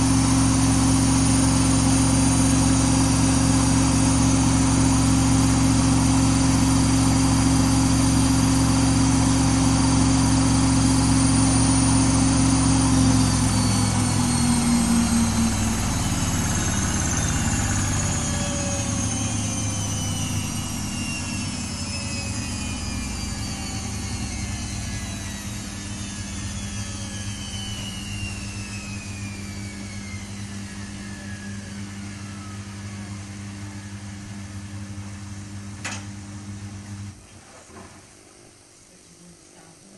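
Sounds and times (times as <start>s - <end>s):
washing machine spinning: 0.0s - 38.8s.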